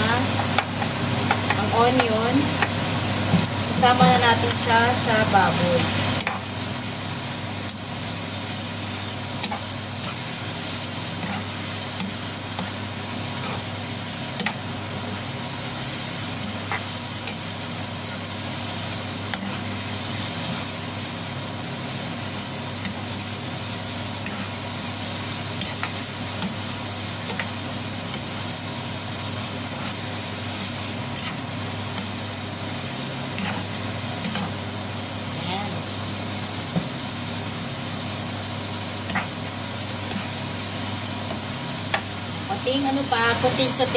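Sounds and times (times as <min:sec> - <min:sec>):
food sizzling in a frying pan: 0:00.0 - 0:43.9.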